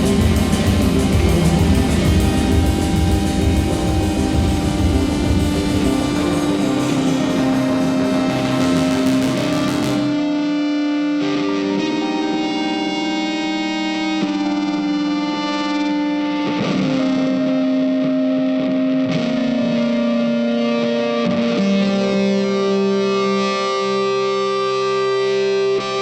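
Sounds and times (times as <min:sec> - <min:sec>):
distorted electric guitar notes: 0:00.0 - 0:26.0.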